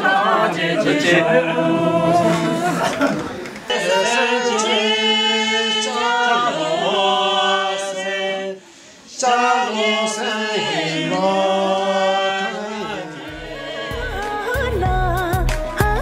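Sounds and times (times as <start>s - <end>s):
voices singing unaccompanied: 0.0s - 16.0s.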